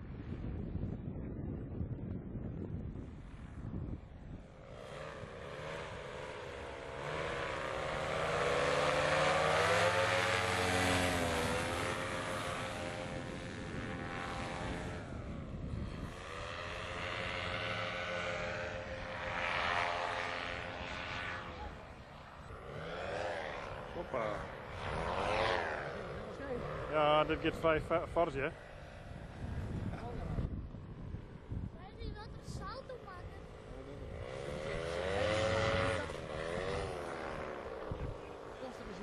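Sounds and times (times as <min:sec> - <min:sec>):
paramotor engine and propeller: 0:00.0 - 0:39.0.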